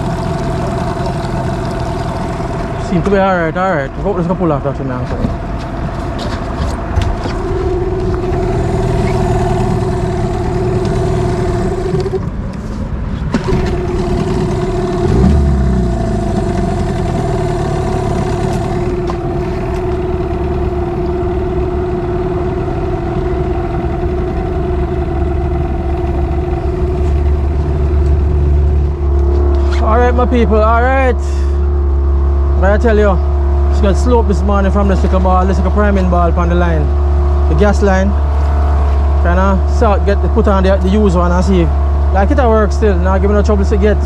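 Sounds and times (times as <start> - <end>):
deep low rumble: 0.0 - 12.5, 13.5 - 44.0
outboard motor running: 0.0 - 12.7, 13.3 - 44.0.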